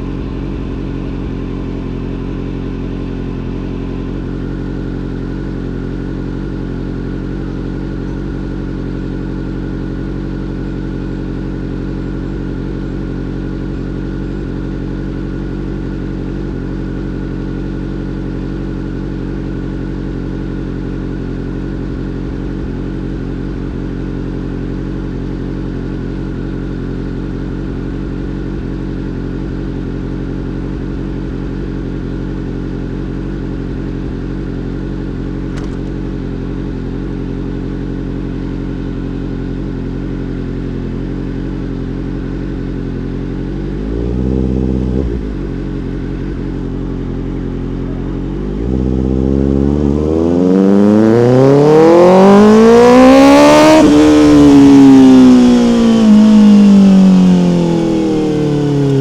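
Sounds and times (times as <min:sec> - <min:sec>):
motorcycle engine running and revving: 0:00.0 - 0:59.0.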